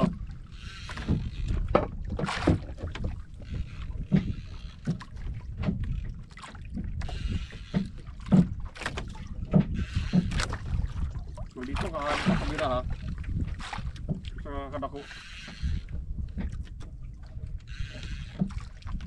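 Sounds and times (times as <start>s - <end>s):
waves slapping against boat hull: 0.0s - 19.0s
wind buffeting microphone: 0.0s - 19.0s.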